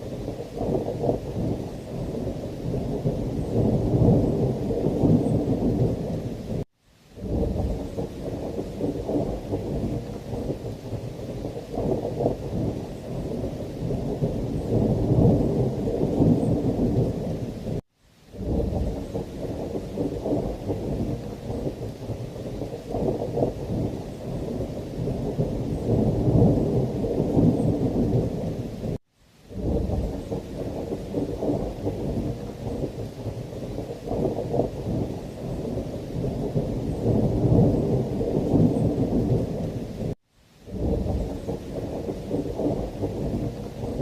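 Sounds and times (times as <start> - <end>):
rolling thunder: 0.0 - 6.6, 7.2 - 17.8, 18.4 - 44.0
heavy rain: 0.0 - 44.0.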